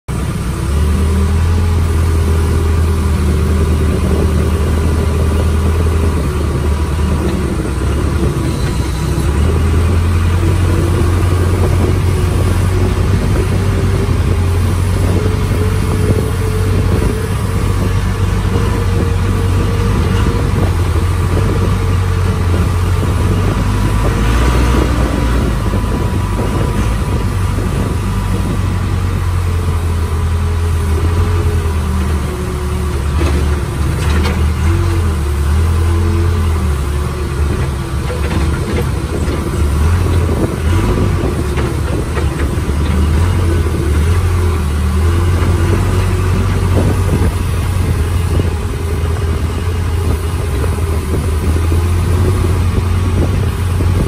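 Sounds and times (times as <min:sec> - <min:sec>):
diesel engine drone: 0:00.0 - 0:54.0.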